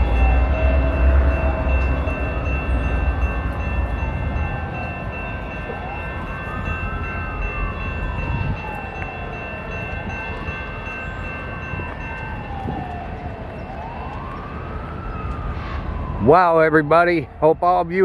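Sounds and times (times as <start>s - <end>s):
train rumble: 0.0s - 16.2s
siren wailing: 0.0s - 18.0s.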